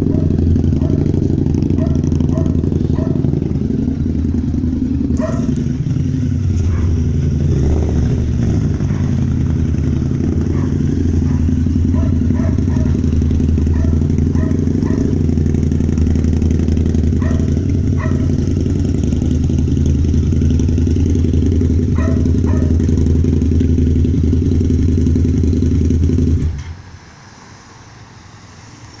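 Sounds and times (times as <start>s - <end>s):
motorcycle engine running: 0.0s - 26.6s.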